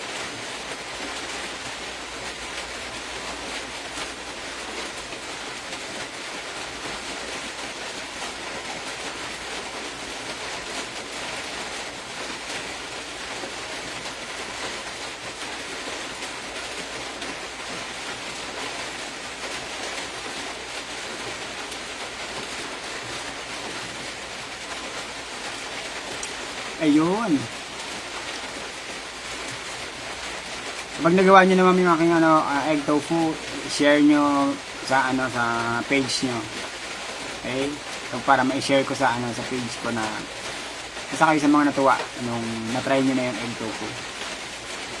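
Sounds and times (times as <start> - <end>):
steady background hiss: 0.0 - 45.0.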